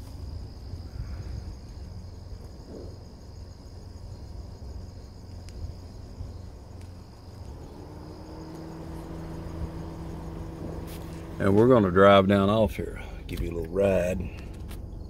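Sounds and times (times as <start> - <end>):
insects trilling: 0.0 - 15.0
low hum: 0.0 - 15.0
steady low tone: 2.2 - 15.0.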